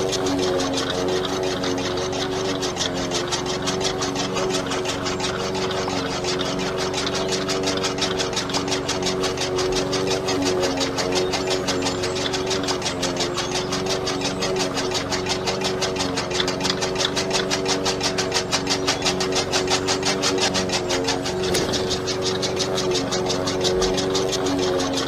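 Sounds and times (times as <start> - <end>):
small motor whining: 0.0 - 25.0
fast even clicking: 0.8 - 25.0.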